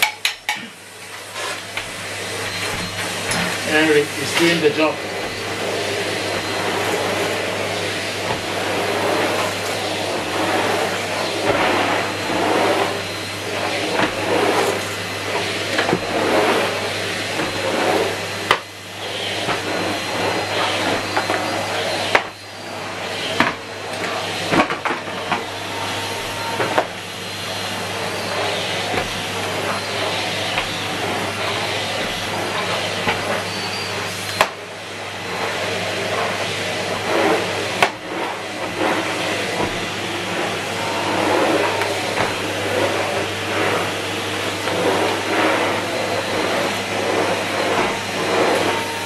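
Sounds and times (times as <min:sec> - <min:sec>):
vacuum cleaner running: 0:00.0 - 0:49.0.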